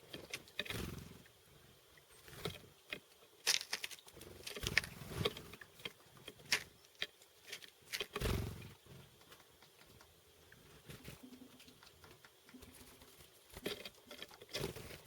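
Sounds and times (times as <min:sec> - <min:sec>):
birds tapping at seeds: 0:00.0 - 0:01.4, 0:02.2 - 0:15.0.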